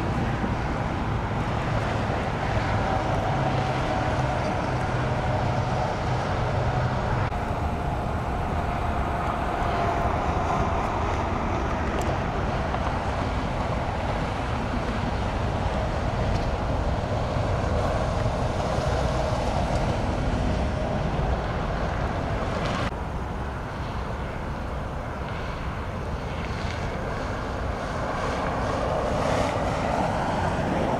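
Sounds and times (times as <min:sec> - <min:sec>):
freeway traffic roar: 0:00.0 - 0:30.9
wind on microphone: 0:00.0 - 0:30.9.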